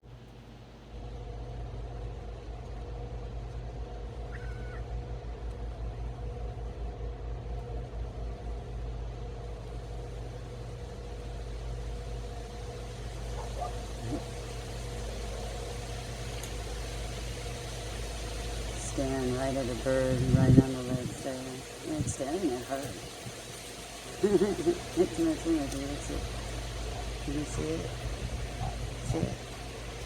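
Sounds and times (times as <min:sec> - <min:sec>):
faint hum: 0:00.0 - 0:30.0.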